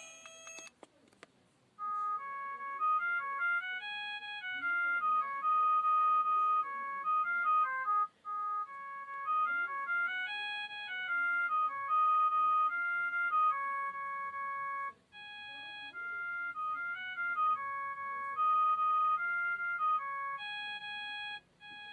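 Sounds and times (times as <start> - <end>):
phone ringtone melody: 0.0 - 0.7, 1.8 - 21.9.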